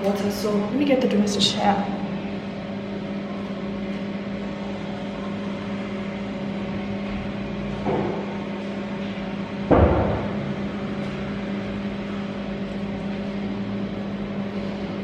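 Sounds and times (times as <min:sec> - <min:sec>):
motor electrical hum: 0:00.0 - 0:15.0.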